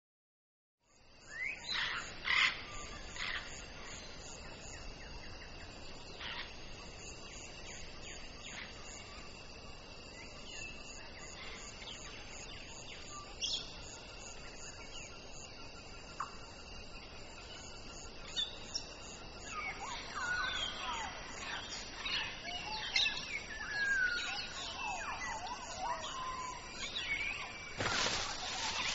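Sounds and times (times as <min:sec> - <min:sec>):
background hiss: 0:00.9 - 0:28.9.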